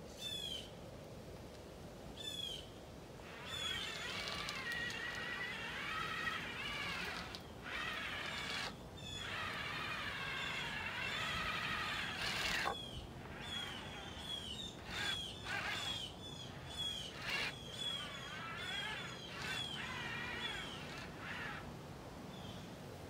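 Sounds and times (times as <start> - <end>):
birds giving wavering calls: 2.2 - 22.7.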